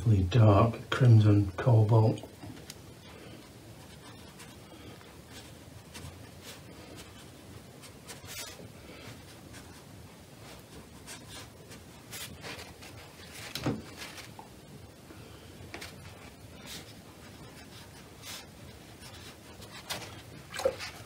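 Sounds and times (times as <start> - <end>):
brush strokes on paper: 3.0 - 14.4, 15.3 - 21.0
paper tissue rustling: 3.0 - 21.0.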